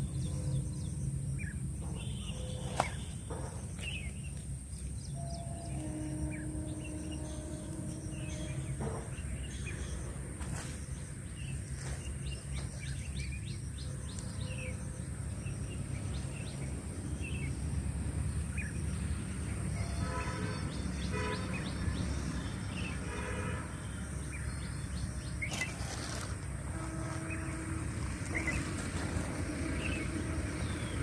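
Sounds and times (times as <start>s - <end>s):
birds chirping: 0.0s - 17.6s, 18.3s - 26.2s
low outdoor rumble: 0.0s - 31.0s.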